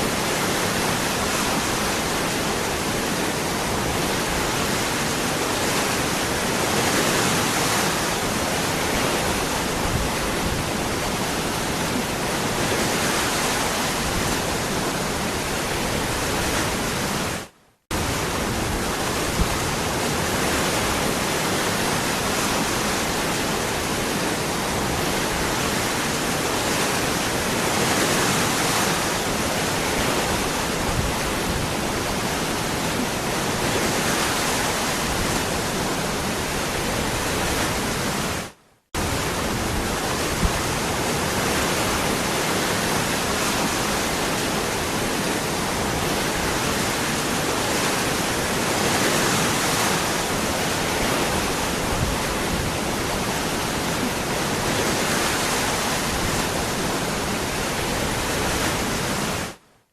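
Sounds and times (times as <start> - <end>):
waterfall roaring: 0.0 - 59.6.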